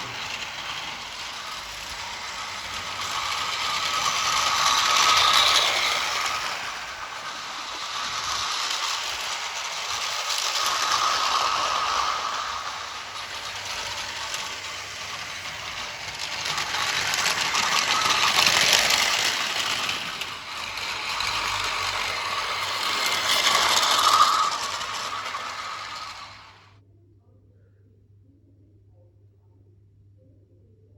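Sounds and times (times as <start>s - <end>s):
toy train motor whirring: 0.0s - 26.7s.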